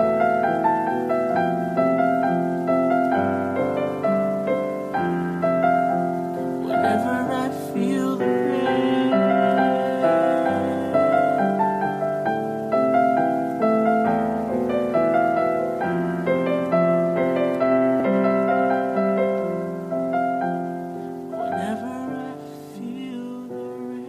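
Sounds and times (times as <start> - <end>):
slow gentle solo piano: 0.0 - 24.0.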